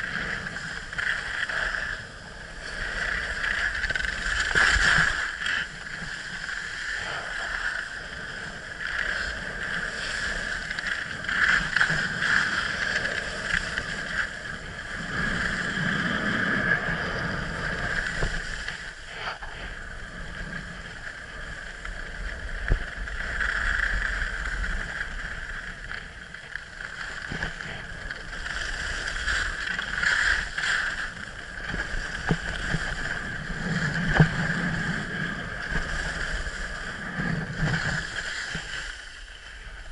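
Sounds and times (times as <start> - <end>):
skis scraping over snow: 0.0 - 39.9
wind rushing over microphone: 0.0 - 39.9.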